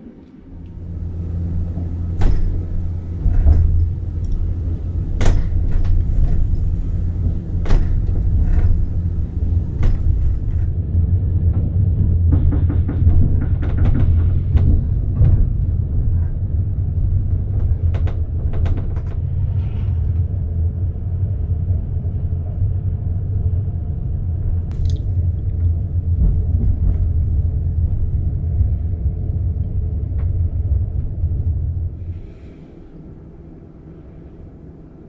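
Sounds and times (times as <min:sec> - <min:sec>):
railway equipment rumbling: 0:00.0 - 0:35.0.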